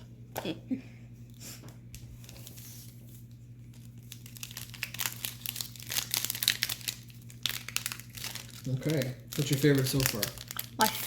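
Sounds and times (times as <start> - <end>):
low steady hum: 0.0 - 11.0
plastic wrapper crinkling: 1.9 - 11.0.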